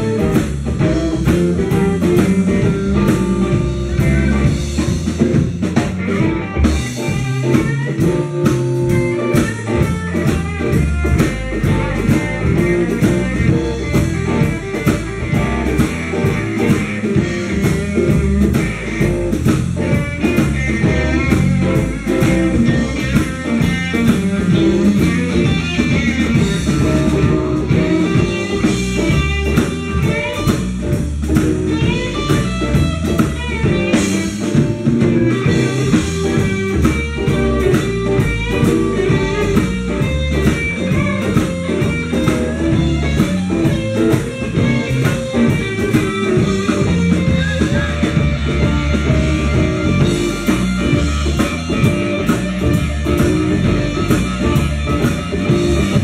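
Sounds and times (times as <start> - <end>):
blues band playing: 0.0 - 56.0
drum kit steady beat: 0.0 - 56.0
electric guitar: 0.0 - 56.0.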